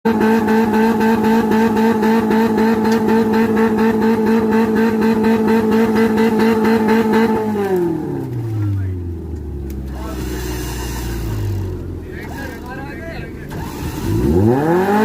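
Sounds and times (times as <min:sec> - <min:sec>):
engine at high revs pulsing: 0:00.1 - 0:08.7, 0:09.7 - 0:15.0.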